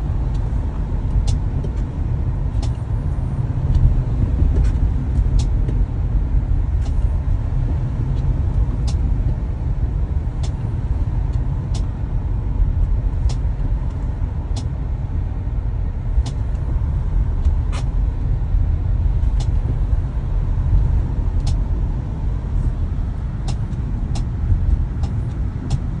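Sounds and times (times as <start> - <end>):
low rumble of moving car: 0.0 - 26.0.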